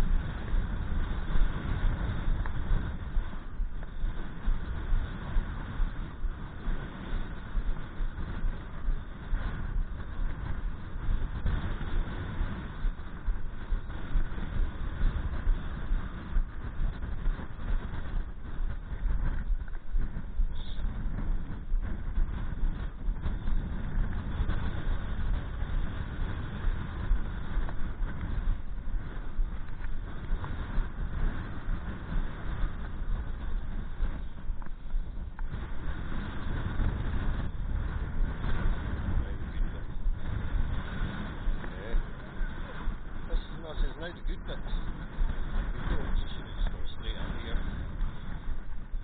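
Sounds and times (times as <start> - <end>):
gusty wind buffeting microphone: 0.0 - 49.0.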